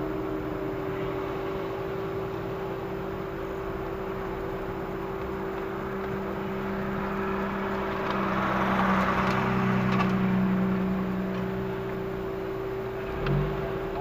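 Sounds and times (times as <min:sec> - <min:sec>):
car engine humming at low revs: 0:00.0 - 0:14.0.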